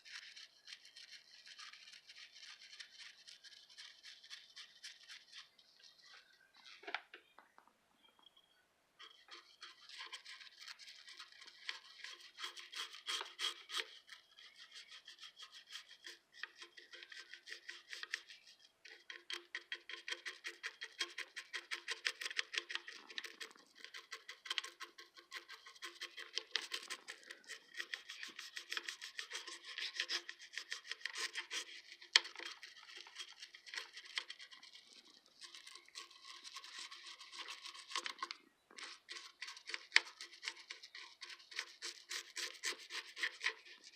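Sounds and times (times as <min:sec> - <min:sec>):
toothbrush scrubbing metal: 0:00.0 - 0:06.8, 0:09.0 - 0:43.9.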